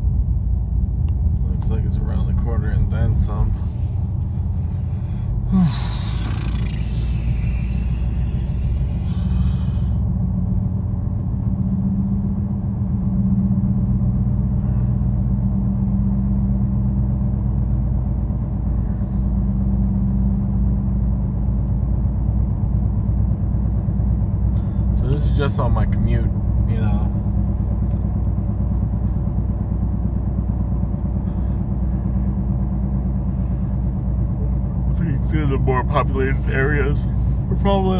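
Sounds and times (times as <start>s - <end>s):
car cabin road rumble: 0.0s - 37.9s.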